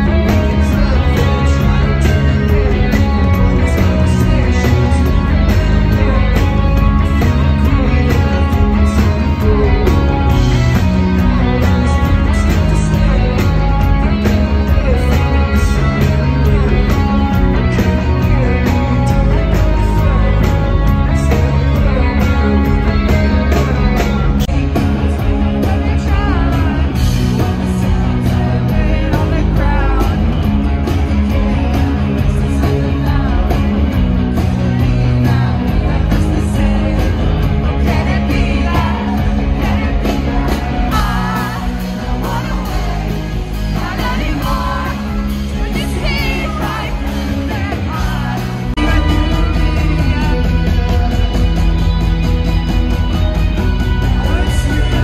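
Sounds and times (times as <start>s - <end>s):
bass guitar: 0.0s - 55.0s
drums: 0.0s - 55.0s
electric guitars: 0.0s - 55.0s
person singing: 0.0s - 55.0s.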